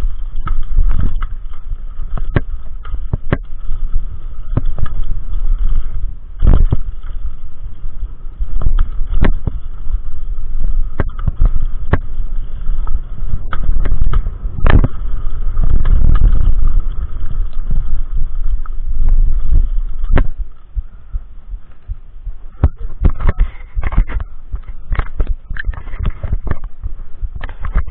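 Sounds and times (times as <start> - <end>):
bike knocks and rattles: 0.0 - 27.9
trail rumble: 0.0 - 27.9
wind buffeting microphone: 0.0 - 27.9.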